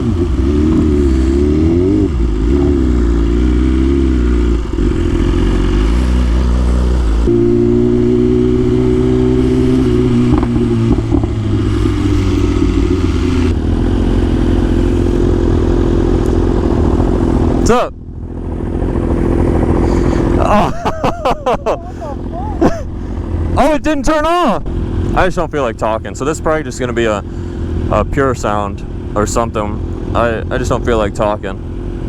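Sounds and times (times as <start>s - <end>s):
motorcycle engines idling: 0.0s - 32.0s.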